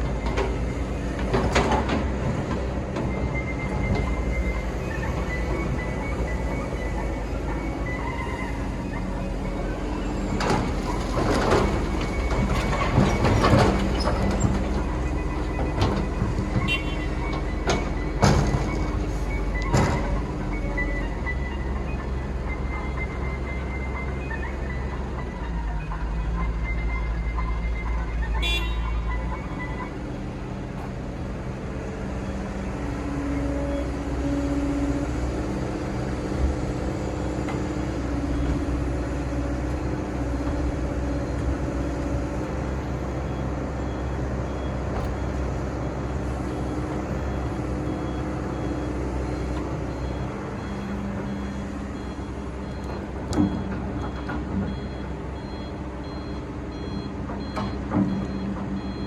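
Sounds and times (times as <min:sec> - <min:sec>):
reversing alarm beeping: 0:00.0 - 0:30.9, 0:32.1 - 0:59.0
excavator diesel engine: 0:00.0 - 0:59.0.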